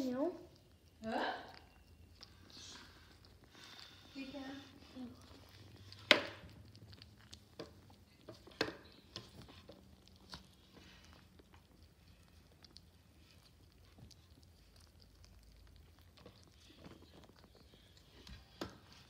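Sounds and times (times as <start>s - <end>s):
kittens crunching kibble: 0.0s - 19.0s.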